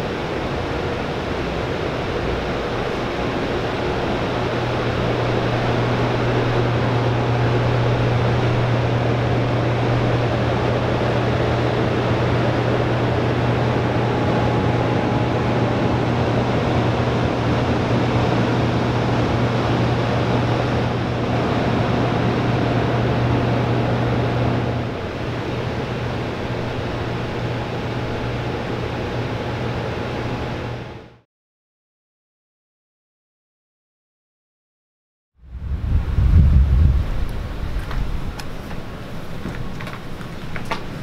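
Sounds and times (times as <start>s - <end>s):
low electrical hum: 0.0s - 31.2s, 35.4s - 41.0s.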